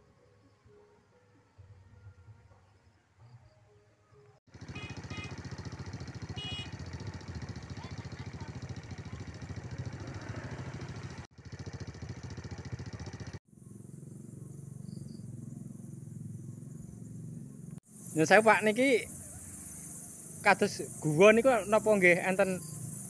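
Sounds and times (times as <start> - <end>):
small engine running: 4.5 - 23.0.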